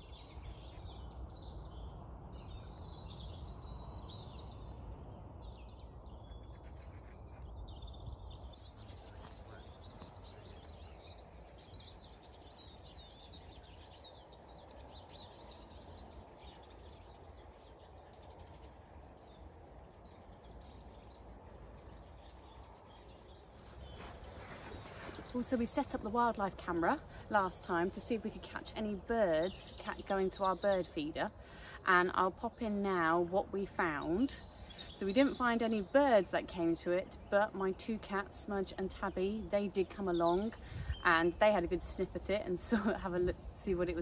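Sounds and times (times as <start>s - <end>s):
small birds chirping and singing: 0.0s - 44.0s.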